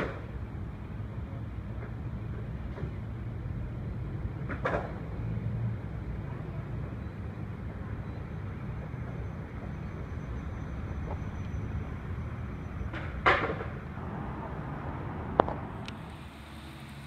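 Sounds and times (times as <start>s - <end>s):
bus engines: 0.0s - 17.0s
distant road traffic: 0.0s - 17.0s.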